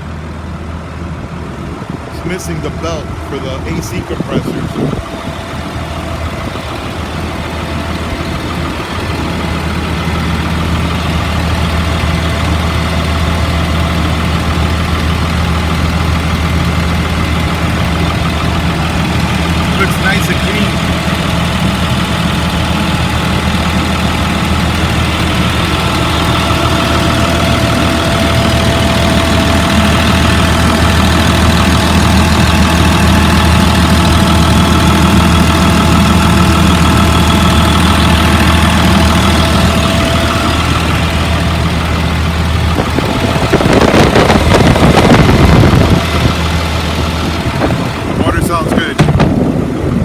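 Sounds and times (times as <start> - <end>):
bus engine idling: 0.0 - 50.0.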